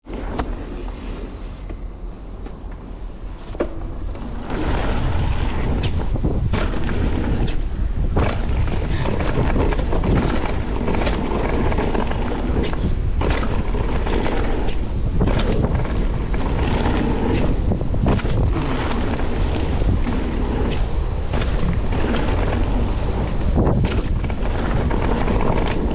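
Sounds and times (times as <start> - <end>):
bike knocking and rattling: 0.0 - 25.9
wind on microphone: 0.0 - 25.9
tyre rumble: 0.1 - 25.9.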